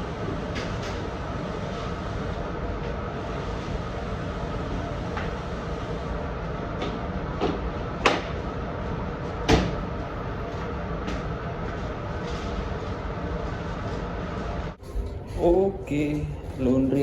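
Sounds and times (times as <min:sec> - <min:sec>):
laundry machines humming: 0:00.0 - 0:17.0.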